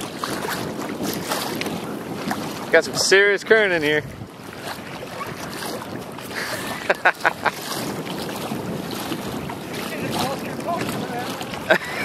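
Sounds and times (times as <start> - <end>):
water lapping around kayaks: 0.0 - 12.0
wind buffeting microphone: 0.0 - 12.0.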